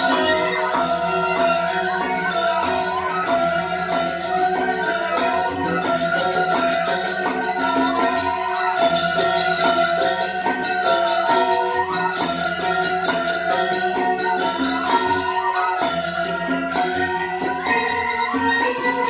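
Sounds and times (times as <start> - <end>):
ensemble music with held notes: 0.0 - 19.0
repeating percussive rhythm: 0.0 - 19.0.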